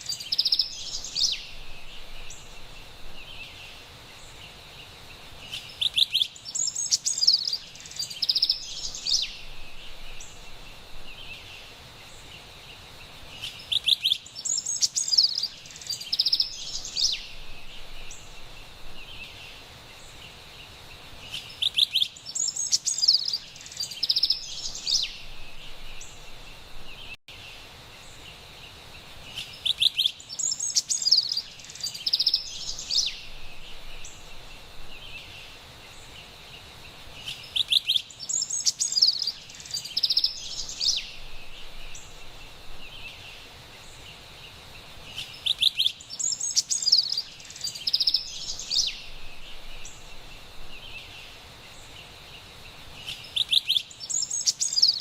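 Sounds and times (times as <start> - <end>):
wren singing: 0.0 - 27.2, 29.3 - 55.0
faint forest background: 0.0 - 55.0.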